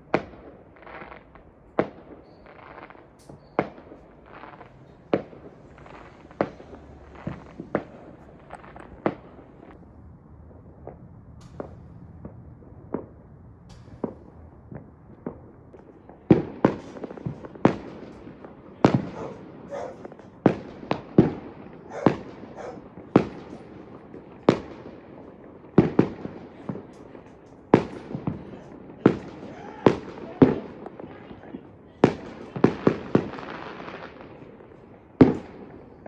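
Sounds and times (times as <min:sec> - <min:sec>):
fireworks exploding: 0:00.0 - 0:36.0.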